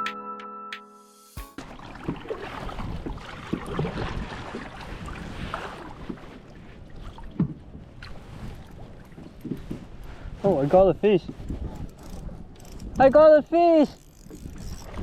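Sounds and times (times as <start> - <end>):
water noise: 1.5 - 15.0
wind on microphone: 2.0 - 15.0.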